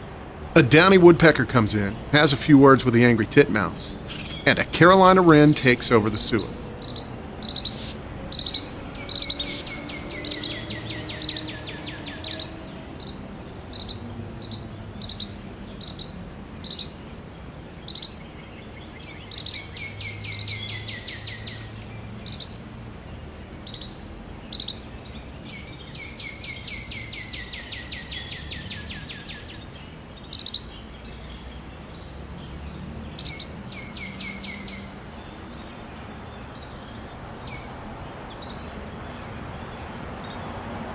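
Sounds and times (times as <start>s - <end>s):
high insect drone: 0.0s - 40.9s
trilled birdsong: 0.4s - 17.0s, 17.8s - 22.6s, 23.2s - 39.2s
songbirds chirping: 0.4s - 40.9s.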